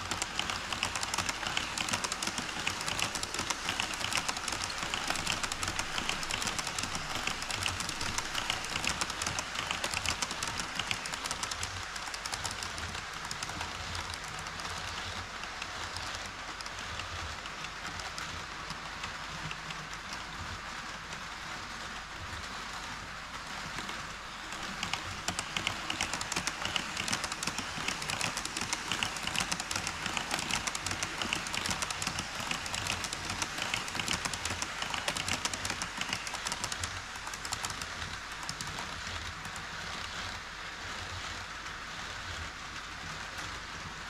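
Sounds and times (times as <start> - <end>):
model train wheels clicking: 0.0 - 44.0.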